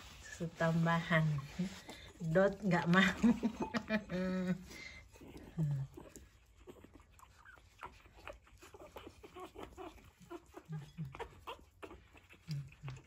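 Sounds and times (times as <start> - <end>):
puppies lapping milk: 0.0 - 13.0.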